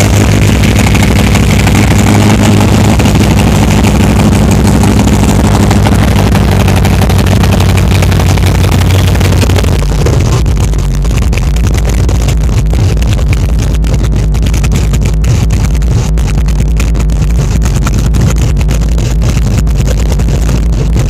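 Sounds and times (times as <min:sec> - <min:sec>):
car engine running loud: 0:00.0 - 0:21.0.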